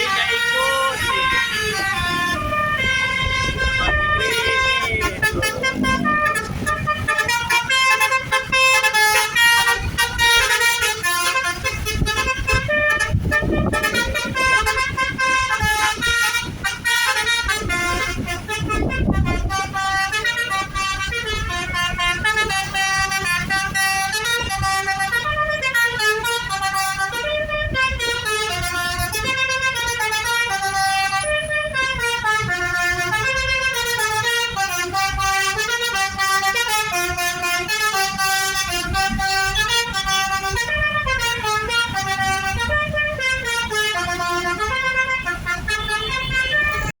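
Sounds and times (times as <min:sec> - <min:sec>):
bus horn playing a tune: 0:00.0 - 0:47.0
engine and road rumble: 0:00.0 - 0:47.0.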